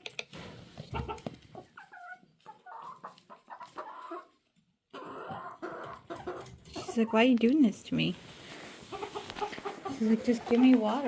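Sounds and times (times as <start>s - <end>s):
chickens clucking: 0.0s - 7.7s, 8.5s - 11.0s.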